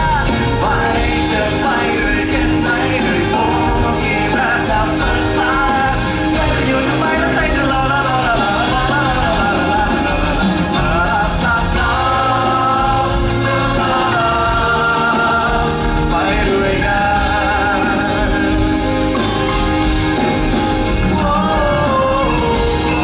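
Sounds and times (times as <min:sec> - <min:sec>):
electric guitar band: 0:00.0 - 0:23.0
man singing with vibrato: 0:00.0 - 0:23.0.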